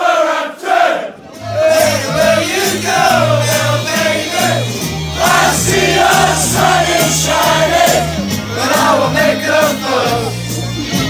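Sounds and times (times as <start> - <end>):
crowd chanting in unison: 0.0 - 10.4.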